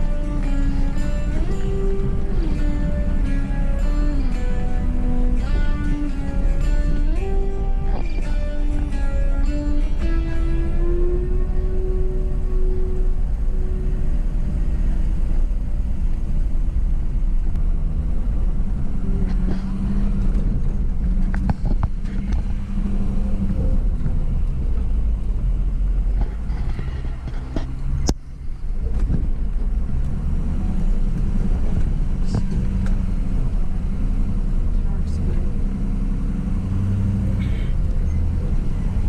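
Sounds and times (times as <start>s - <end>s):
truck engine rumbling: 0.0s - 39.0s.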